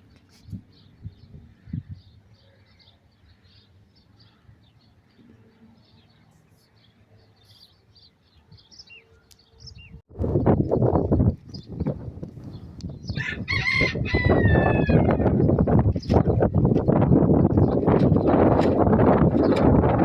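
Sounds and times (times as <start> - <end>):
small birds chirping: 0.0 - 19.7.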